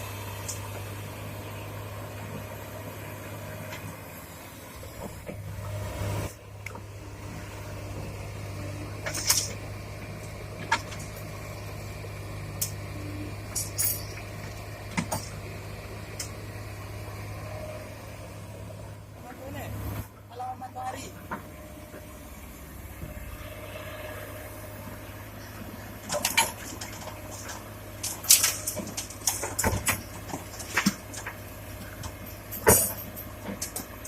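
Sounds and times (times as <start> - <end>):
heavy diesel machinery running: 0.0 - 34.0.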